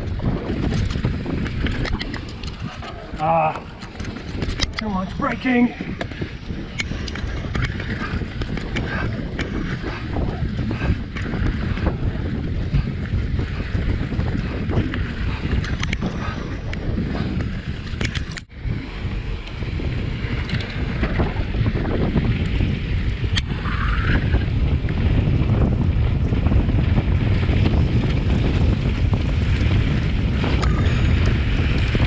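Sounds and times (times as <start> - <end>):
bike clicks and rattles: 0.0 - 32.0
bike tyre noise on dirt: 0.0 - 32.0
wind buffeting microphone: 0.0 - 32.0.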